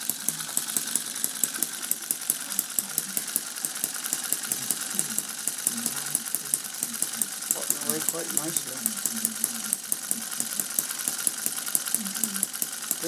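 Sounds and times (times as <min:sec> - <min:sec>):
small engine popping: 0:00.0 - 0:13.0.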